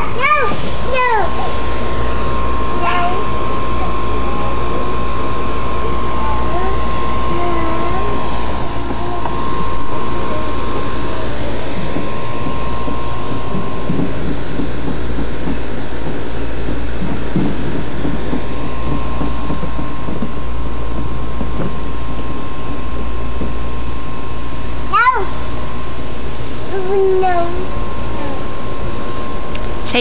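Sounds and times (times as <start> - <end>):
air conditioner unit droning: 0.0 - 30.0.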